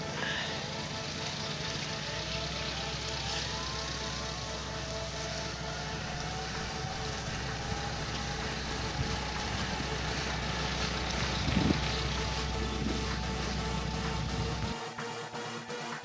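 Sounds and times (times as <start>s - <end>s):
low mechanical hum: 0.0s - 14.8s
noisy background: 0.0s - 16.0s.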